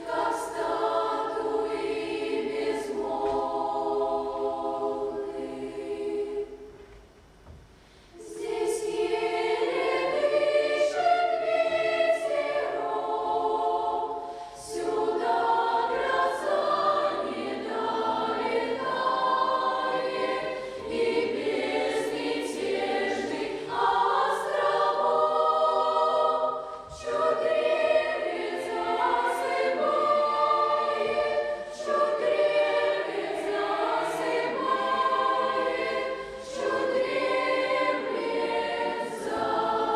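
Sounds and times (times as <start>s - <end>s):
choir singing: 0.0s - 6.8s, 8.1s - 39.9s.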